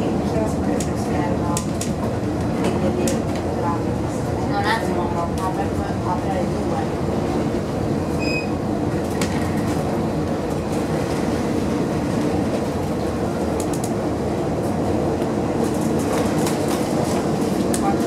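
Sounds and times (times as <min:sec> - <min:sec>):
tram rumbling along track: 0:00.0 - 0:18.0.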